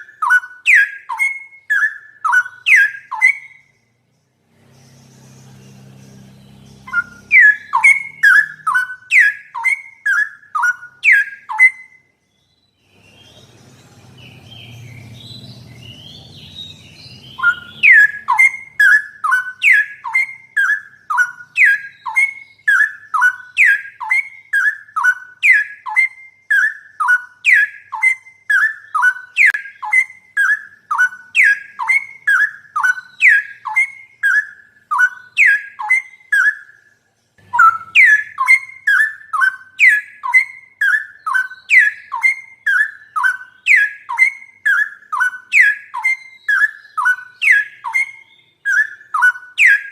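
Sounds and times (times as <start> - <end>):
bird whistled song: 0.0 - 49.9.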